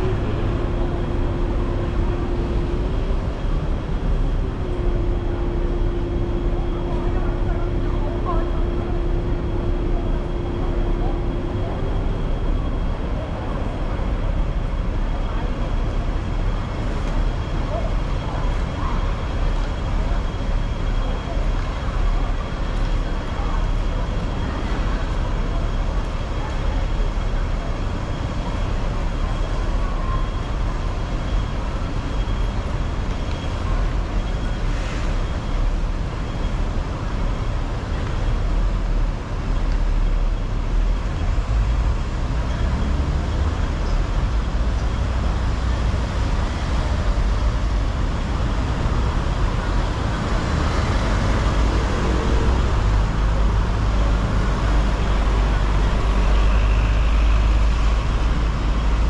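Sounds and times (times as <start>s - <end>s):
road traffic: 0.0s - 59.0s
tram rumbling on track: 0.0s - 59.0s.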